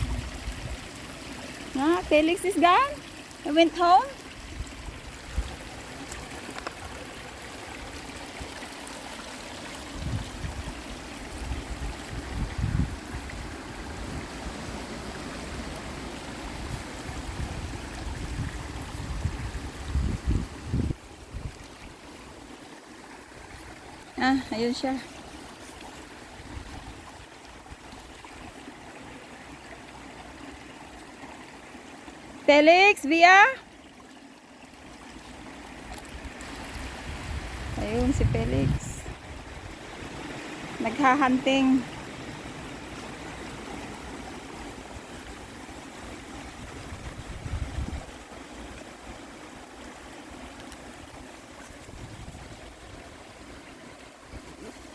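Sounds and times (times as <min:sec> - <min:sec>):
river water flowing: 0:00.0 - 0:54.9
stream running over stones: 0:00.0 - 0:54.9.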